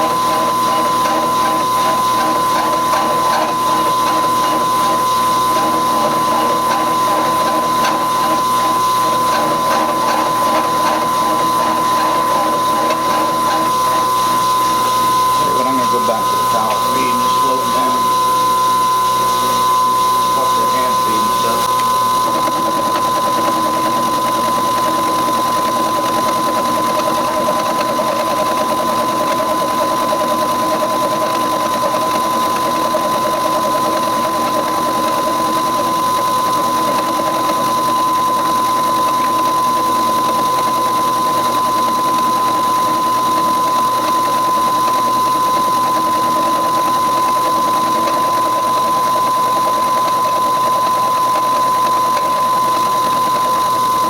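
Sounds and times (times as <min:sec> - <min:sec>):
milling saw whining through steel: 0:00.0 - 0:54.0.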